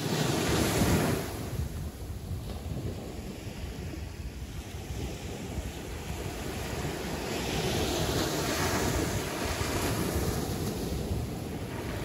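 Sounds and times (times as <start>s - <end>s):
sea waves breaking on shore: 0.0s - 12.0s
wind rumbling on microphone: 0.0s - 12.0s.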